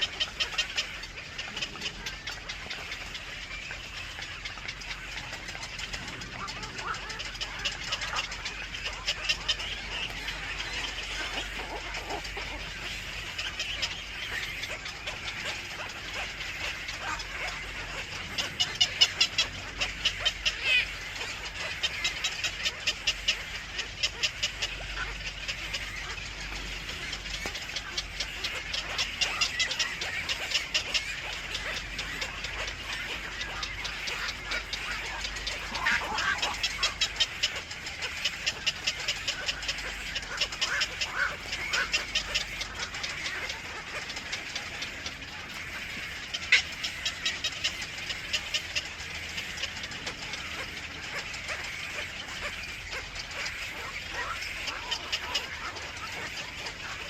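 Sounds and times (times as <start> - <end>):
birds calling: 0.0 - 57.0.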